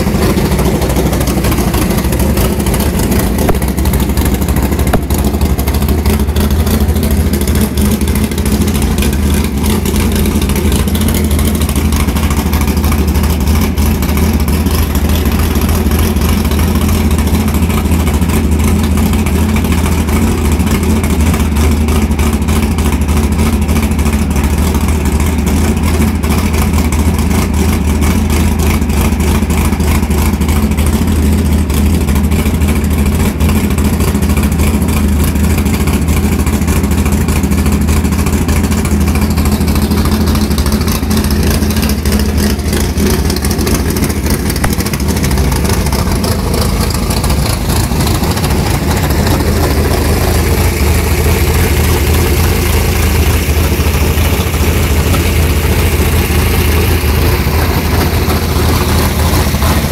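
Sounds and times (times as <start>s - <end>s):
engine idling with deep rumble: 0.0s - 59.9s.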